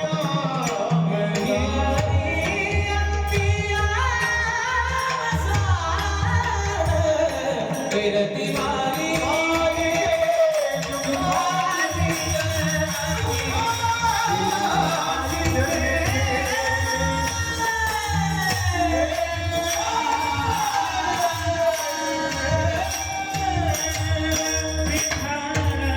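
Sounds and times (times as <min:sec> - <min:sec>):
jingling percussion: 0:00.0 - 0:25.9
person singing devotional song: 0:00.0 - 0:25.9.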